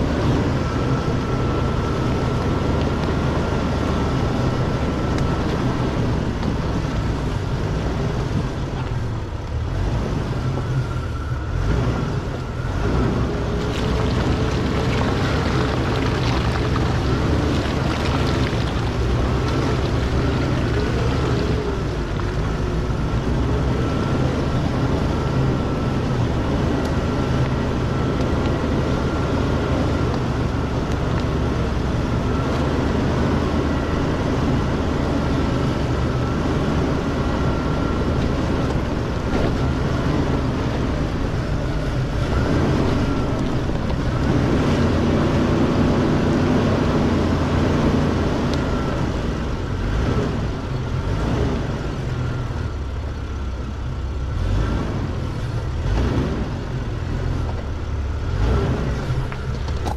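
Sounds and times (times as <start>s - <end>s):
engine running at low speed: 0.0s - 59.9s.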